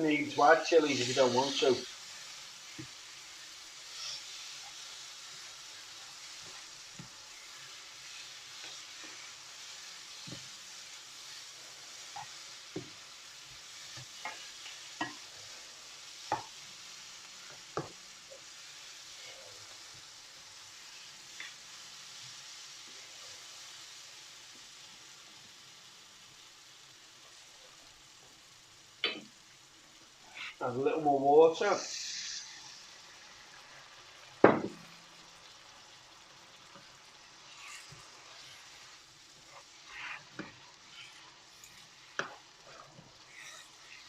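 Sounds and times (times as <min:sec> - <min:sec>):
curry sizzling in frying pan: 0:00.0 - 0:44.0.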